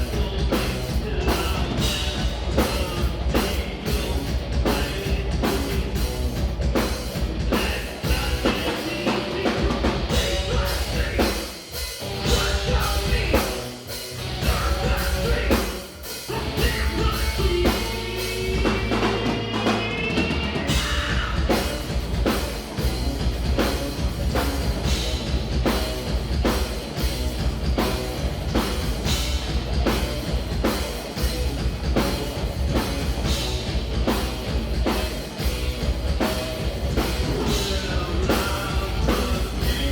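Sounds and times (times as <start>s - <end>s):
live heavy rock band: 0.0s - 39.9s.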